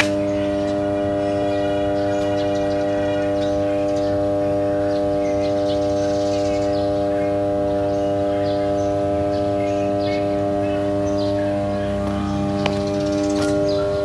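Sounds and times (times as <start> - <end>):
birds chirping: 0.0 - 14.0
power transformer humming: 0.0 - 14.0.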